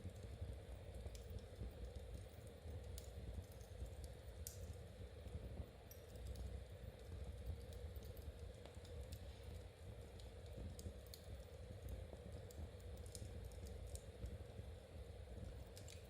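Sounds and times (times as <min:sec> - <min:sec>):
fireplace crackling: 0:01.0 - 0:16.0.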